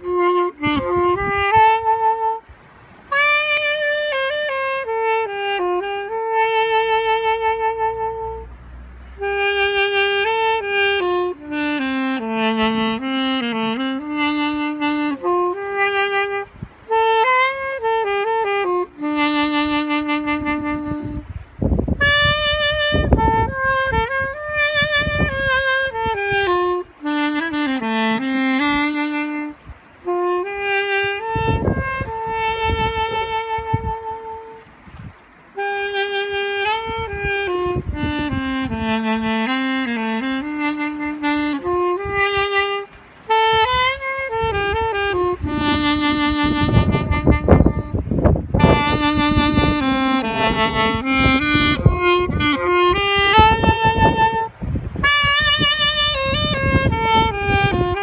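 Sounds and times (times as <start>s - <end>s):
solo saxophone ballad: 0.0s - 58.0s.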